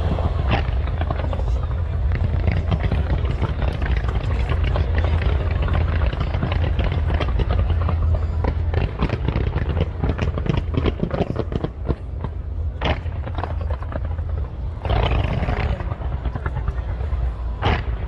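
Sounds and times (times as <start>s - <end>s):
fireworks cracking and banging: 0.0s - 18.0s
low rumble: 0.0s - 18.0s.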